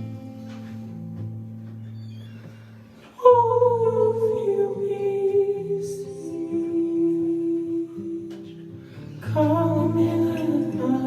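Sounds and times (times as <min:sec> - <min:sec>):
guitar: 0:00.0 - 0:11.0.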